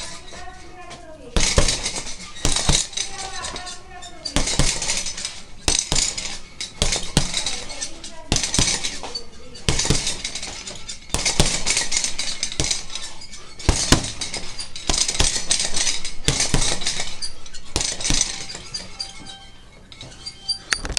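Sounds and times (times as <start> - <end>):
gloved punches on heavy bag: 0.0 - 3.6, 4.3 - 7.7, 8.3 - 18.8
chains jingling: 1.4 - 20.8.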